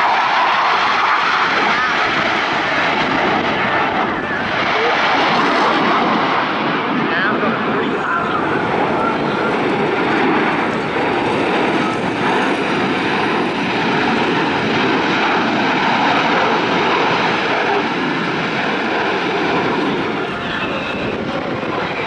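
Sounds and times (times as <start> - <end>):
jet engines passing overhead: 0.0 - 22.0.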